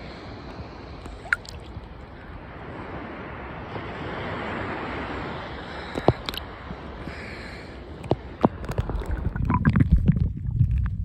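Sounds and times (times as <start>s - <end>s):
seawater lapping and sloshing: 0.1s - 3.3s, 4.3s - 11.0s.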